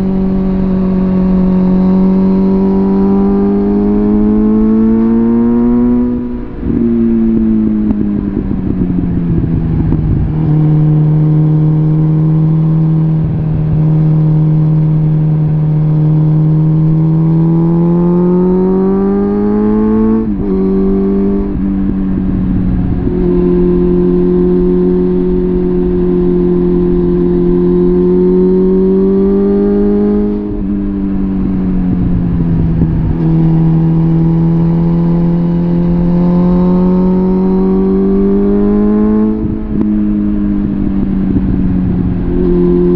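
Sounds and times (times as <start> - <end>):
motorcycle engine revving through gears: 0.0 - 42.9.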